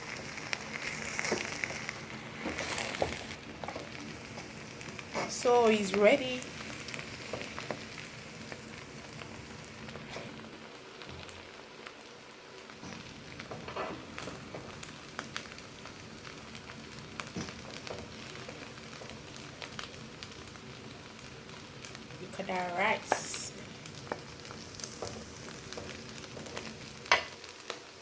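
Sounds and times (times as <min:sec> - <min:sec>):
food sizzling in a hot pan: 0:00.0 - 0:28.0.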